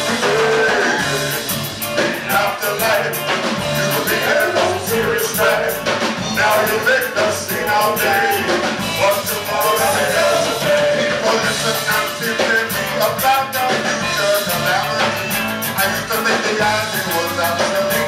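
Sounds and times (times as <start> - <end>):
live rock and roll band: 0.0 - 18.0
loud drumbeat: 0.0 - 18.0.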